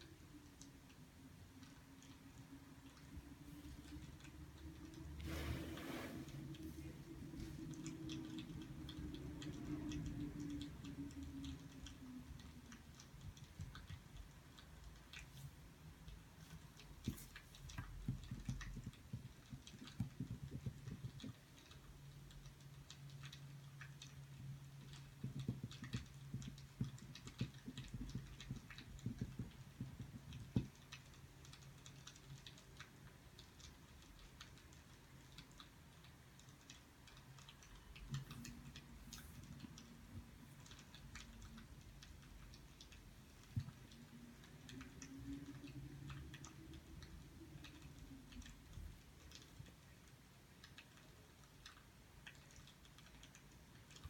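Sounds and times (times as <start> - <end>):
small clicks and ticks: 0.0 - 5.4, 6.0 - 54.0
low steady hum: 0.0 - 54.0.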